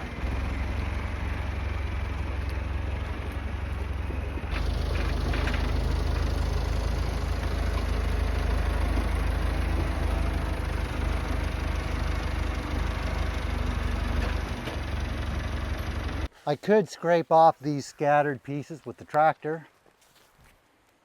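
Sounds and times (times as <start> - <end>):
tractor engine running: 0.0 - 19.5.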